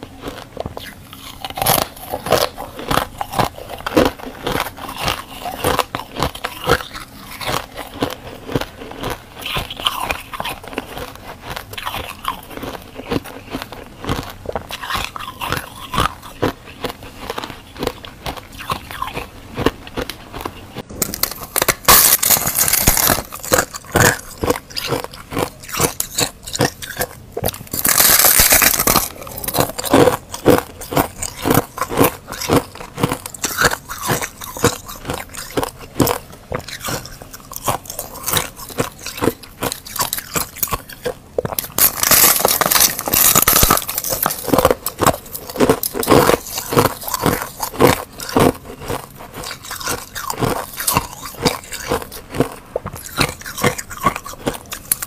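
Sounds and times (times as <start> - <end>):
crunching of chewed frost: 0.0 - 55.0.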